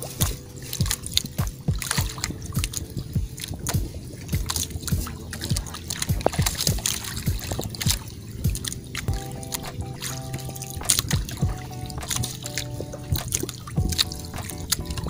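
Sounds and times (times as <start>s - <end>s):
background music with steady beat: 0.0s - 15.0s
water splashing against boat hull: 0.0s - 15.0s.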